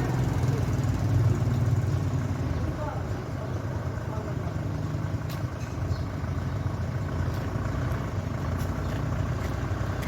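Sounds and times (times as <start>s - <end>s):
engine idling rumble: 0.0s - 10.0s.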